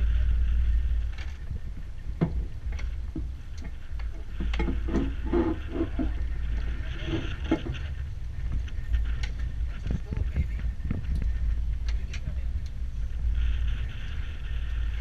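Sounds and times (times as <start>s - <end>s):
muffled voices: 0.0s - 15.0s
wind buffeting microphone: 0.0s - 15.0s.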